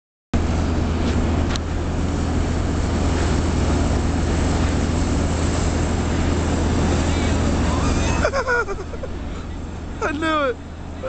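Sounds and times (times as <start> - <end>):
diesel engine droning: 0.4 - 11.0.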